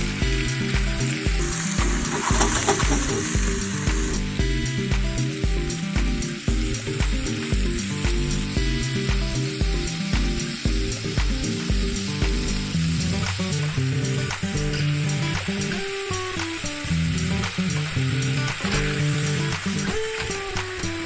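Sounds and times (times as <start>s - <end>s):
background music with a beat: 0.0s - 21.0s
chicken sizzling in a pan: 0.0s - 21.0s.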